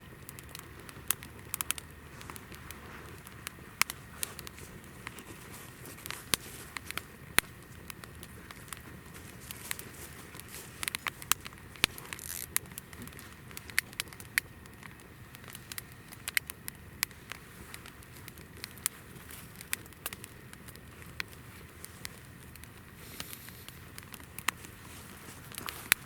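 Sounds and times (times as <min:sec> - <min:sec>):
firewood crackling and popping: 0:00.0 - 0:26.0
low rumble of flame: 0:00.0 - 0:26.0.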